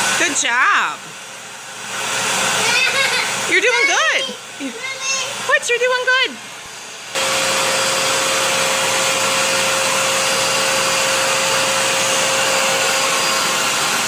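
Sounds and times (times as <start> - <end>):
vacuum cleaner running: 0.0 - 14.0
vacuum cleaner whine: 0.0 - 14.0.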